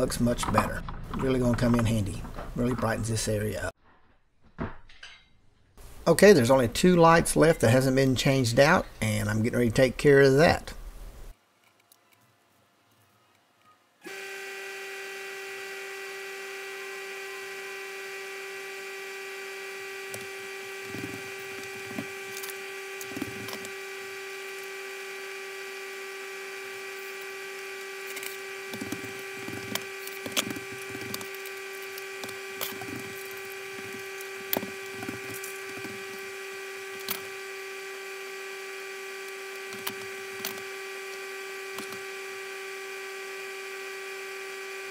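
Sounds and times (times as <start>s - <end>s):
steady electrical hum: 5.8s - 44.9s.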